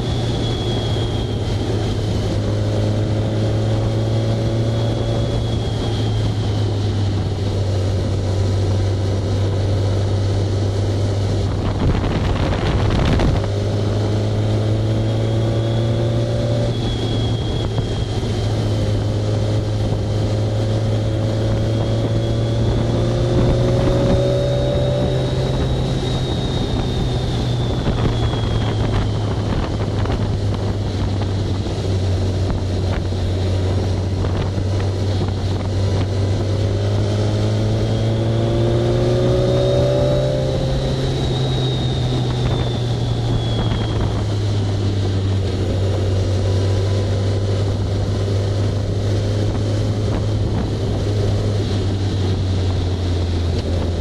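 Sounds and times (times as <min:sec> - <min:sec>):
motorcycle engine running: 0:00.0 - 0:54.0
wind rush over microphone: 0:00.0 - 0:54.0.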